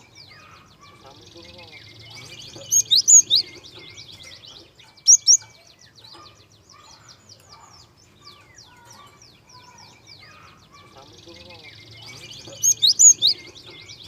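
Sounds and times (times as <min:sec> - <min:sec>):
loud sharp bird chirps: 0:00.0 - 0:14.0.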